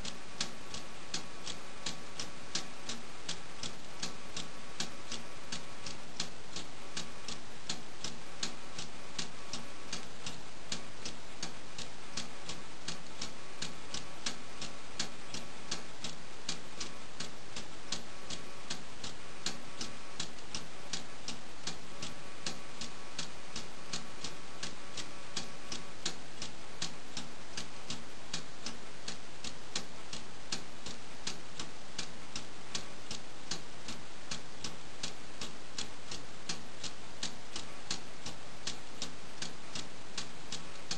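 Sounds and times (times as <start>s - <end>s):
clock ticking: 0.0s - 40.9s.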